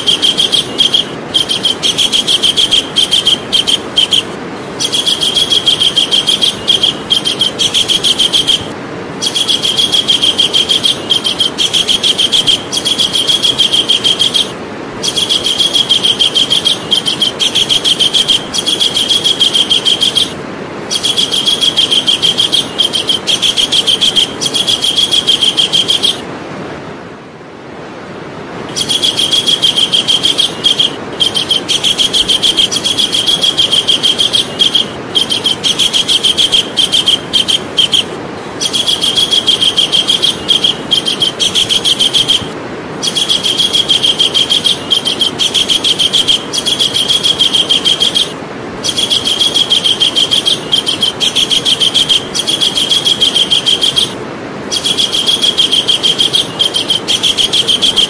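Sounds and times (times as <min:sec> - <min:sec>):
kingfisher calling: 0:00.0 - 0:26.2, 0:28.7 - 0:58.0
steady low hiss: 0:00.0 - 0:58.0.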